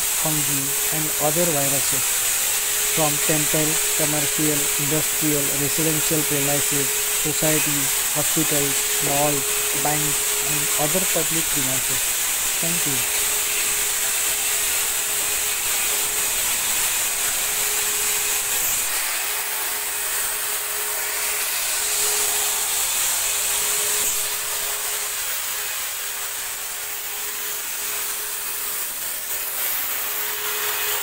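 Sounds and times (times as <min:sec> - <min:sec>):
fogging machine hissing: 0:00.0 - 0:31.0.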